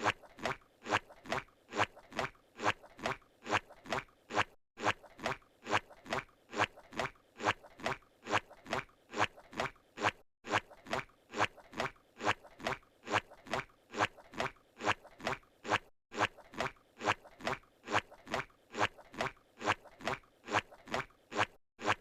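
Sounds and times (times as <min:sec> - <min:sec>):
cartoon squishy footsteps: 0:00.0 - 0:22.0.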